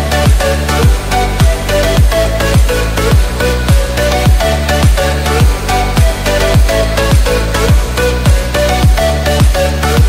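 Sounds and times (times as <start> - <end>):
sustained bass line: 0.0 - 10.0
kick drum beat: 0.3 - 9.6.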